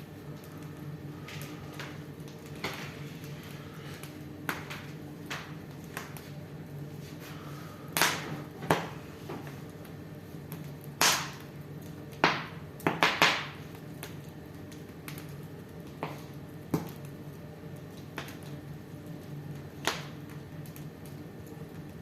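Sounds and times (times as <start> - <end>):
wood fire crackling: 0.0 - 22.0
sharp pops from fire: 0.4 - 6.4, 7.9 - 17.2, 17.8 - 18.7, 19.5 - 22.0.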